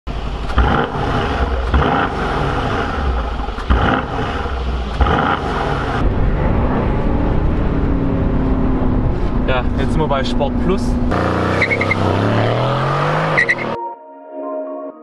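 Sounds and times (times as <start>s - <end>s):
car engine revving: 0.1s - 13.8s.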